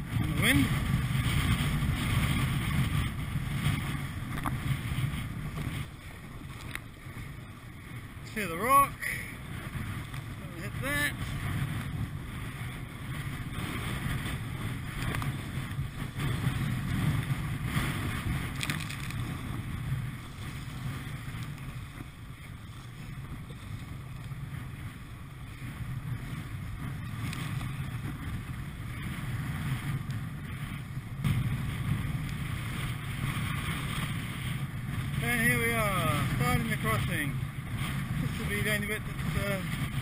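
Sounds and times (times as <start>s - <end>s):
choppy water splashing: 0.0s - 40.0s
wind buffeting microphone: 0.0s - 40.0s.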